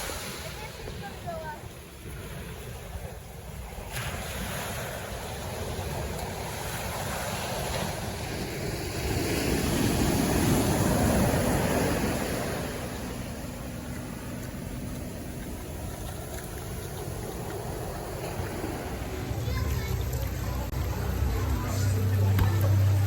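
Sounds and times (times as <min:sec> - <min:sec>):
waves breaking on beach: 0:00.0 - 0:20.4
wind rumbling on microphone: 0:00.0 - 0:20.8.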